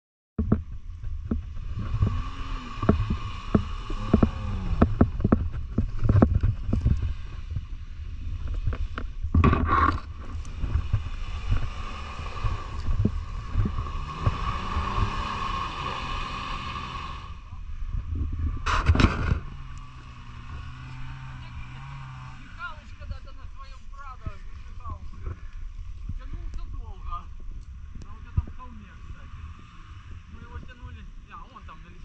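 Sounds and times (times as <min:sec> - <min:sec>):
off-road vehicle engine running: 0:00.4 - 0:32.0.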